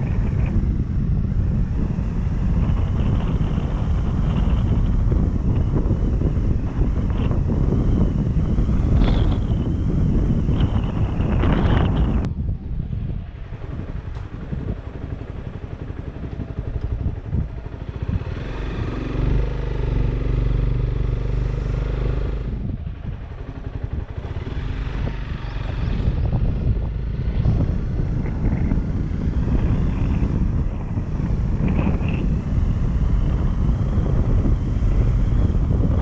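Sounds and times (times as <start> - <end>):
motorcycle engine running: 0.0 - 36.0
wind buffeting microphone: 0.0 - 36.0.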